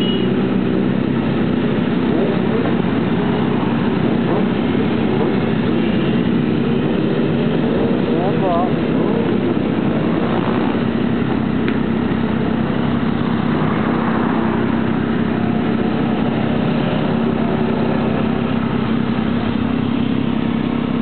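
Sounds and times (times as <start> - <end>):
motorcycles riding past: 0.0 - 21.0.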